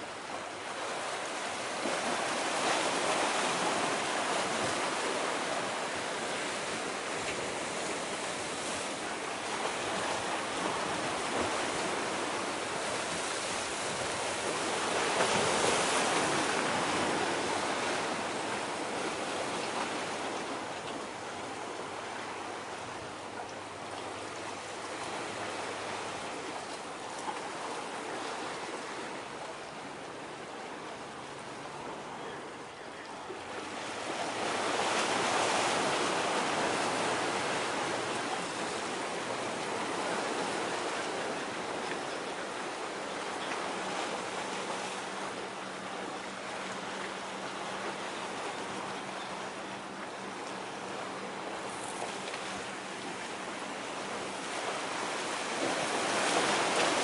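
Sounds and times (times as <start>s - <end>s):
sea surf washing ashore: 0.0s - 57.0s.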